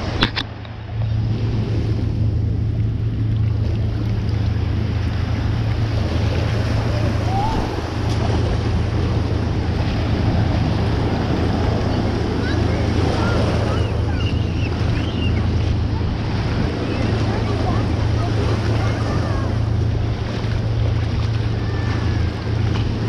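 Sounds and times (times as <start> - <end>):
shallow surf washing: 0.0 - 23.0
wind buffeting microphone: 0.0 - 23.0.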